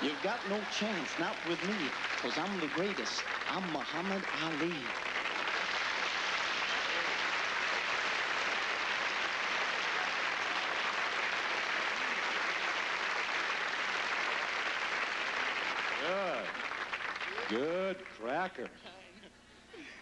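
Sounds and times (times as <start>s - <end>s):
audience applauding: 0.0s - 18.7s.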